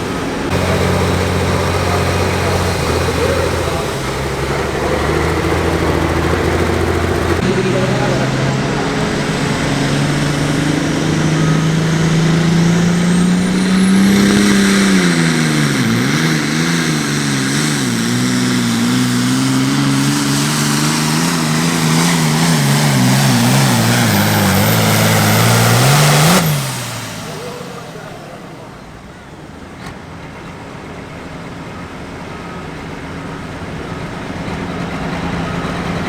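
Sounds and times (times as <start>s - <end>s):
diesel tractor engine at full throttle: 0.0s - 36.0s.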